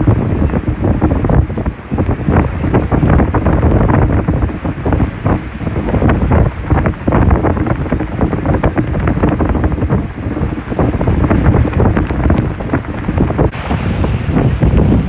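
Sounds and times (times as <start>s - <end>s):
waves washing in: 0.0s - 15.0s
wind buffeting microphone: 0.0s - 15.0s.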